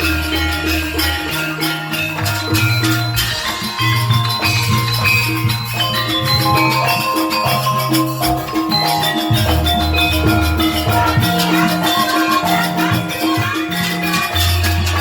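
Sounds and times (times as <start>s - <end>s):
bass line: 0.0s - 15.0s
pitched melody notes: 0.0s - 15.0s
rhythmic percussion: 0.0s - 15.0s.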